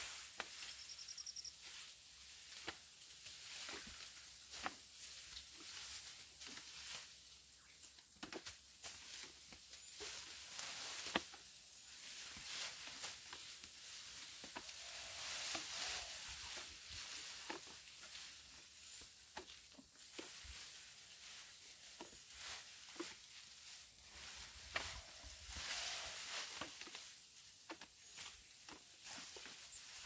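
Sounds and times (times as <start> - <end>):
tall grass rustling and tearing: 0.0 - 30.0.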